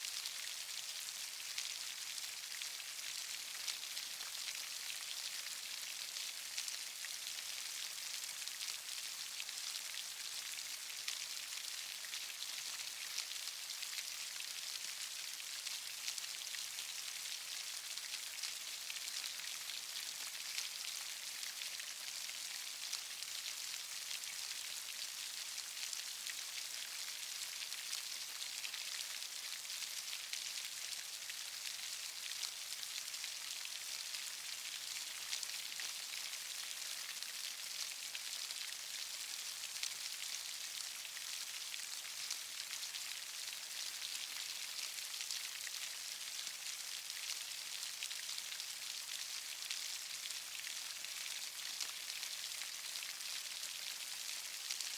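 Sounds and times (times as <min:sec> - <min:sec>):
steady rain pattering: 0:00.0 - 0:54.9.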